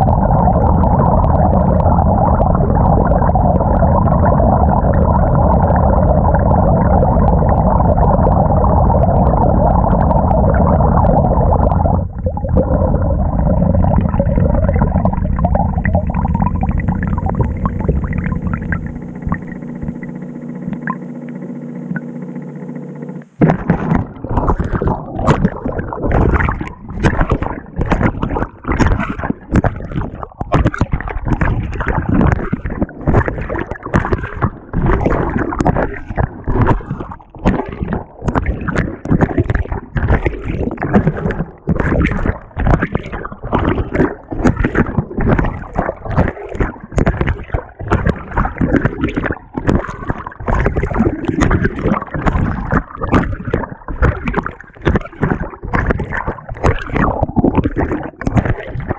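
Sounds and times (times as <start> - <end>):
washing machine water churning: 0.0 - 58.9
water splashing and sloshing: 0.0 - 58.9.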